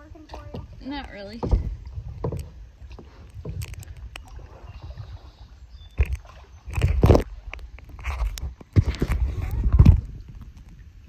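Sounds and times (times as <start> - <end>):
paddle strokes in water: 0.0 - 11.0.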